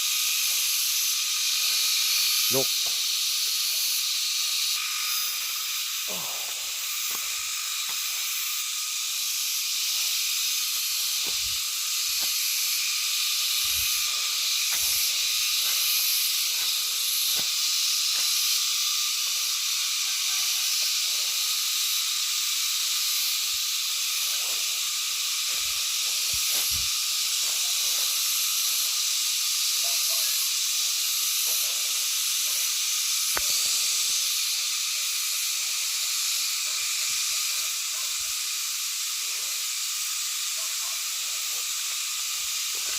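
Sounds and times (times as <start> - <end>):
shrill chorus of night insects: 0.0 - 42.9.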